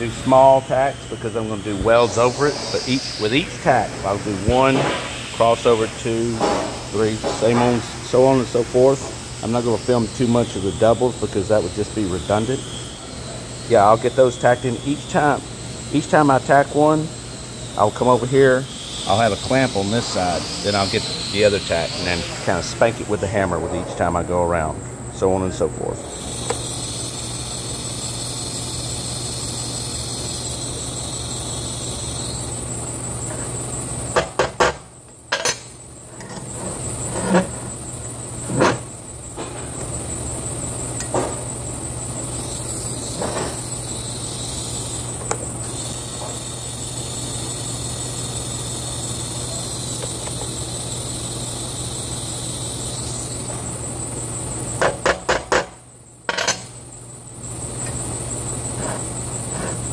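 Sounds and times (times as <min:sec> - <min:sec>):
welding arc buzzing: 0:00.0 - 0:24.4, 0:26.0 - 0:34.8, 0:39.8 - 0:55.4
steady low hum: 0:00.0 - 0:55.1.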